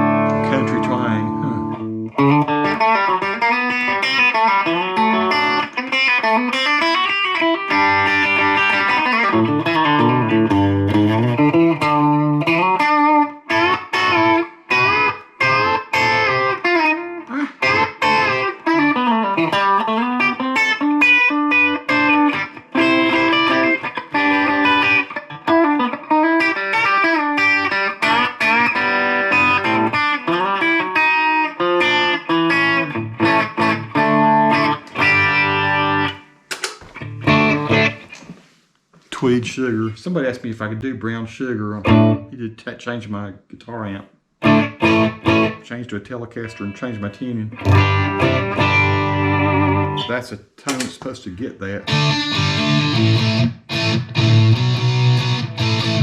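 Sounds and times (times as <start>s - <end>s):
electric guitar lead with bends: 0.0s - 36.3s, 37.0s - 38.2s, 41.8s - 42.3s, 44.4s - 45.6s, 46.4s - 50.2s, 51.8s - 56.0s.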